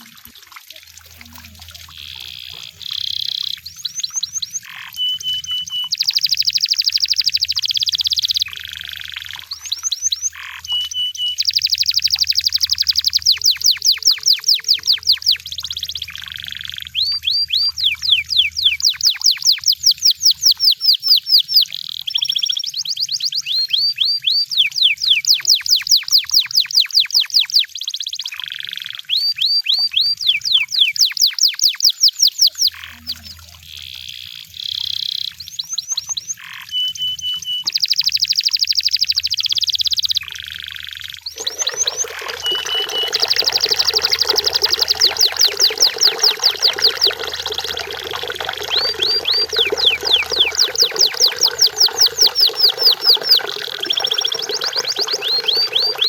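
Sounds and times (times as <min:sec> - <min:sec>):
canary singing fast trills: 0:01.5 - 0:56.0.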